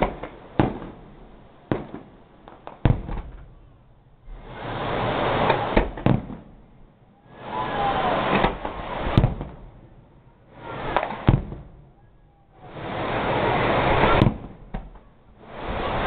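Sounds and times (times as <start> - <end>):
fireworks bangs: 0.0 - 16.0
rushing crackling fireworks: 0.0 - 16.0.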